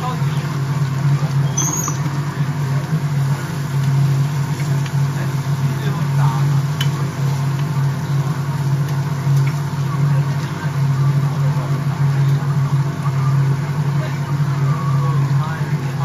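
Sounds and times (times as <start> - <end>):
food frying on a griddle: 0.0 - 16.0
low mechanical hum: 0.0 - 16.0.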